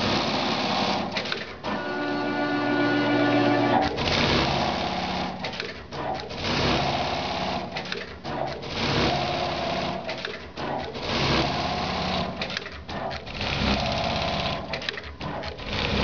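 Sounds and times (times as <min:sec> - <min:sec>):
industrial sewing machine stitching: 0:00.0 - 0:16.0.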